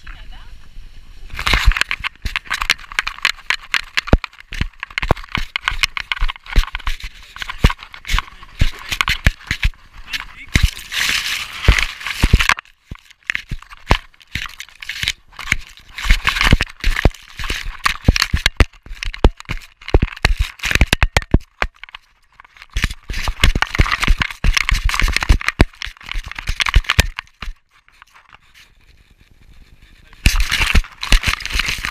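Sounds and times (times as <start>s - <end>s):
leaves and twigs brushing camera: 1.3s - 31.9s
camera housing knocks and clatters: 1.4s - 9.7s, 11.6s - 28.4s, 30.2s - 31.9s.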